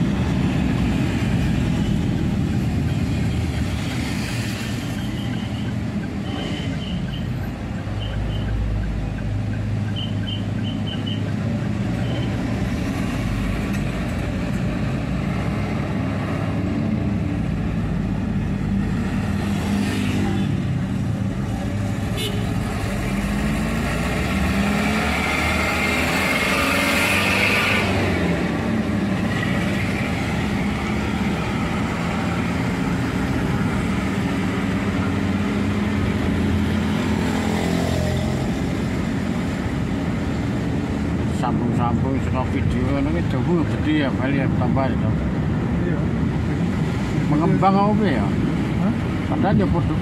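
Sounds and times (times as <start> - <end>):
road noise: 0.0 - 50.0.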